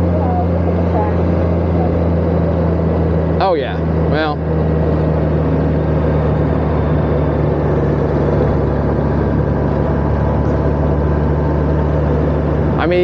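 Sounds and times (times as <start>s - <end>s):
motorcycle engine low hum: 0.0s - 13.0s
road and wind noise: 0.0s - 13.0s.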